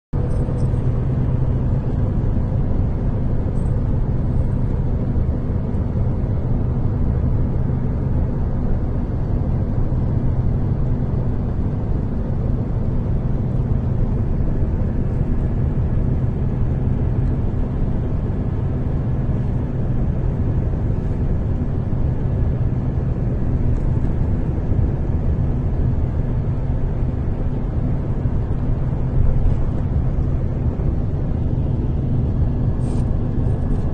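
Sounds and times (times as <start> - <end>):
car engine and tyre drone: 0.2 - 33.9.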